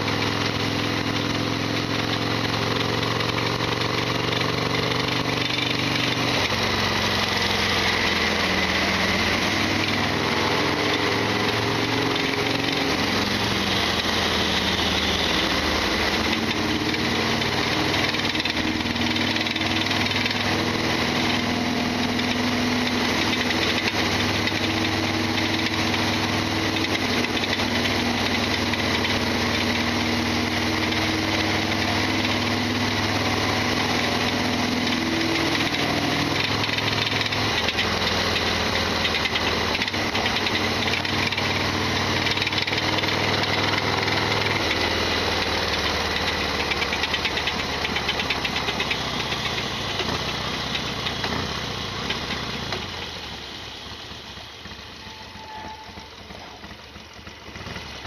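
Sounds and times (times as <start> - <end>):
loud mechanical clatter: 0.0 - 58.0
motorcycle engine running: 0.0 - 58.0.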